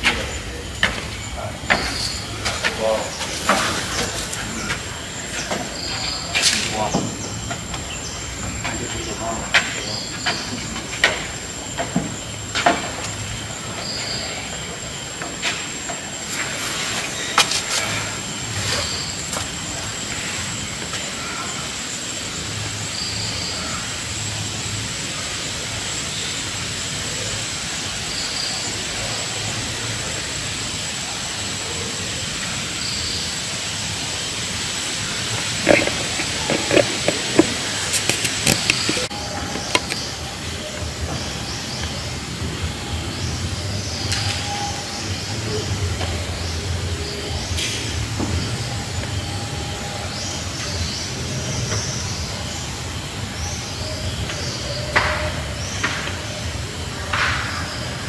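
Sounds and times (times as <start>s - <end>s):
insects hissing: 0.0s - 58.0s.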